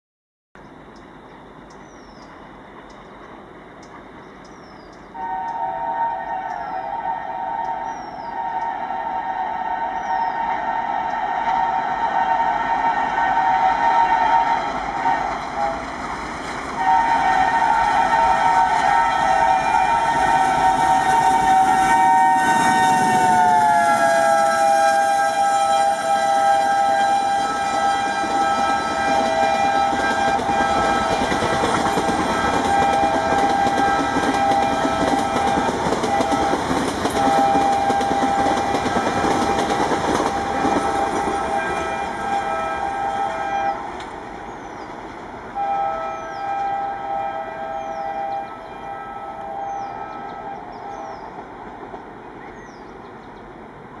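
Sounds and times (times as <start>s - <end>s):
train rushing past: 0.8s - 54.0s
locomotive horn blast: 5.2s - 16.0s, 16.8s - 44.0s, 45.5s - 51.4s.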